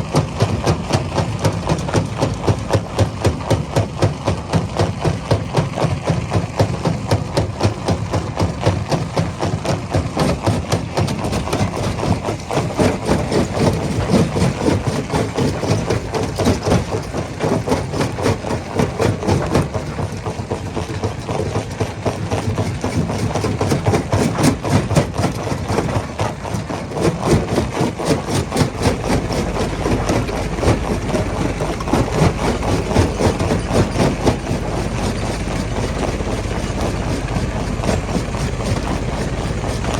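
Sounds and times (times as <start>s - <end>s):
heavy engine drone: 0.0s - 39.9s
rock crusher knocking and clattering: 0.0s - 39.9s.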